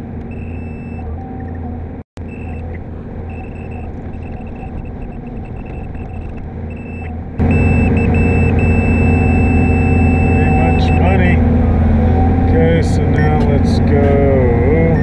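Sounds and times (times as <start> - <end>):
excavator engine and hydraulics: 0.0 - 15.0
high-pitched electronic beeps: 0.3 - 1.1, 2.2 - 11.4, 12.4 - 15.0.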